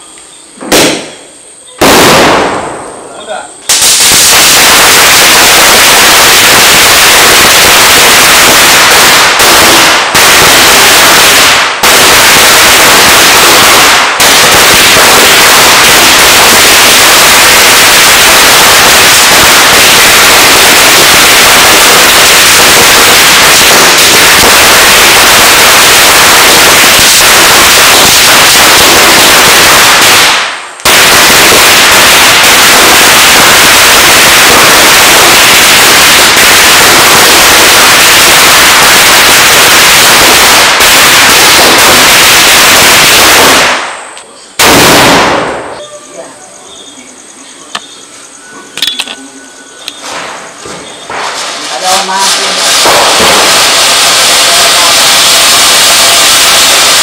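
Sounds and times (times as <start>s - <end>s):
firecrackers banging: 0.0s - 46.7s, 48.6s - 57.0s.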